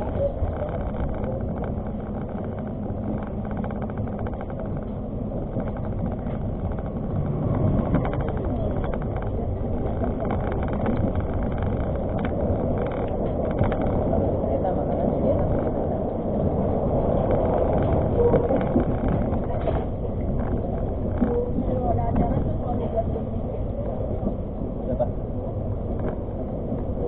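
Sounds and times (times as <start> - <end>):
light rail clicks: 0.0 - 27.0
train rumbling on rails: 0.0 - 27.0.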